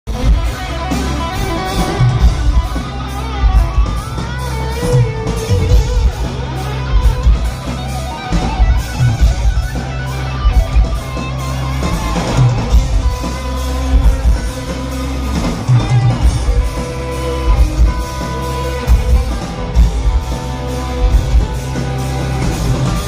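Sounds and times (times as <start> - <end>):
bass guitar: 0.1 - 23.0
electric guitar lines: 0.1 - 23.0
steady drum beat: 0.1 - 23.0.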